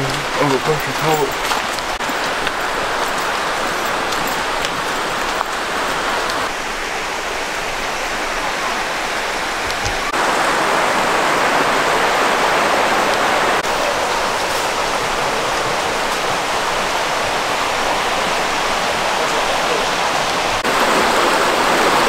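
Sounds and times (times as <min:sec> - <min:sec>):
creek water rushing over stones: 0:00.0 - 0:22.0.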